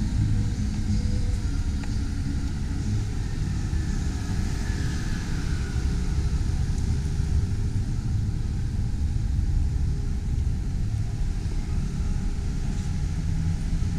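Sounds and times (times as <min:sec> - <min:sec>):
street low rumble: 0:00.0 - 0:13.9.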